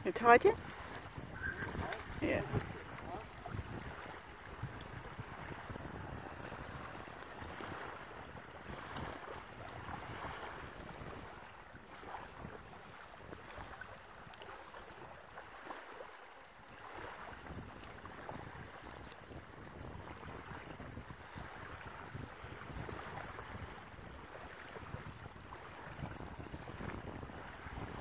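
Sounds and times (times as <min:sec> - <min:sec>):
wind buffeting microphone: 0:00.0 - 0:15.2, 0:16.8 - 0:28.0
small waves lapping: 0:00.0 - 0:28.0.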